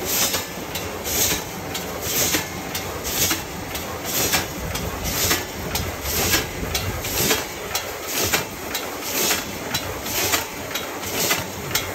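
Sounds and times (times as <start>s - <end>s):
machine hiss and rumble: 0.0s - 11.9s
packing machine clacking: 0.2s - 11.9s.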